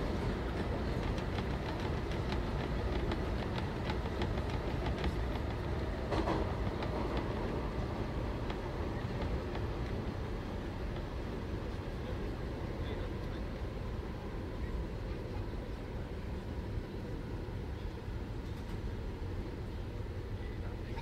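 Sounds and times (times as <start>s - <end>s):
subway car low rumble: 0.0s - 21.0s.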